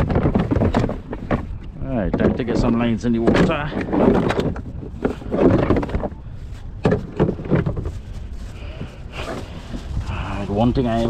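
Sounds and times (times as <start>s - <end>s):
fishing gear knocking and scraping: 0.0s - 11.0s.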